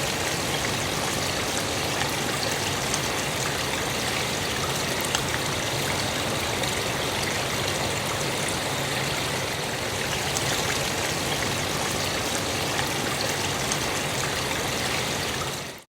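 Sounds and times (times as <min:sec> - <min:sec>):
water trickling: 0:00.0 - 0:15.9.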